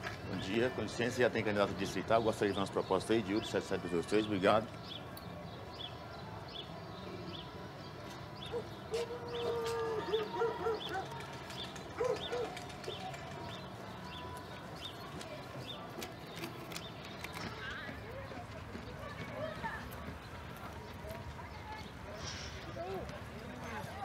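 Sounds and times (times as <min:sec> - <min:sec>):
street ambience: 0:00.0 - 0:24.0.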